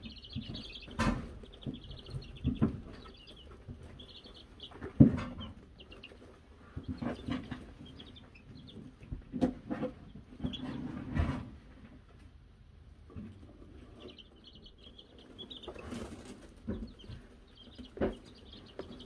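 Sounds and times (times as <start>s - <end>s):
chicks knocking and scuffling: 0.0s - 19.0s
chicks peeping: 0.0s - 19.0s.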